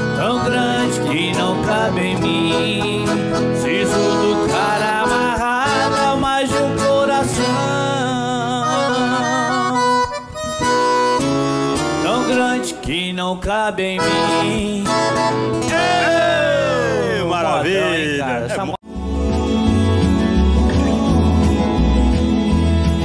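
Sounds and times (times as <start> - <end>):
accordion melody: 0.0 - 13.0, 13.9 - 23.0
guitar accompaniment: 0.0 - 23.0.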